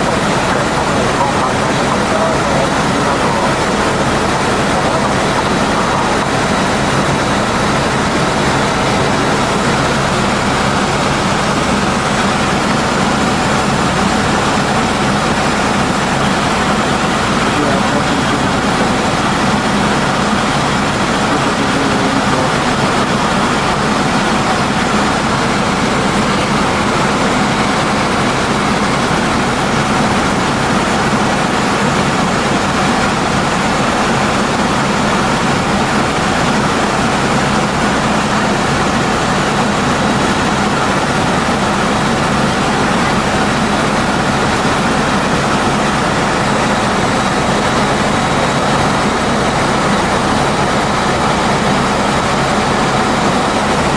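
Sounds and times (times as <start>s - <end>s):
constant hums: 0.0s - 53.9s
helicopter engine and rotor drone: 0.0s - 53.9s.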